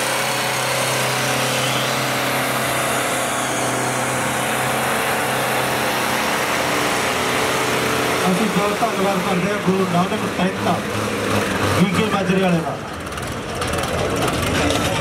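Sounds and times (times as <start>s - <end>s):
tractor diesel engines running hard: 0.0s - 15.0s.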